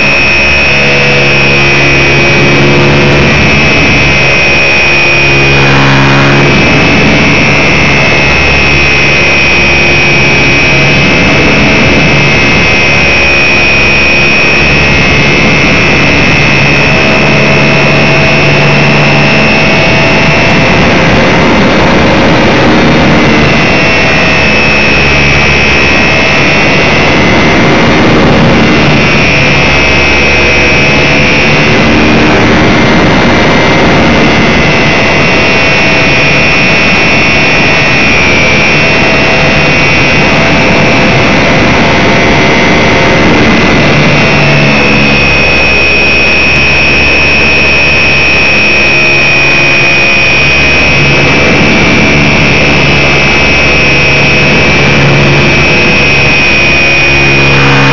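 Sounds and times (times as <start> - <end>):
model plane motor whining: 0.0 - 57.9.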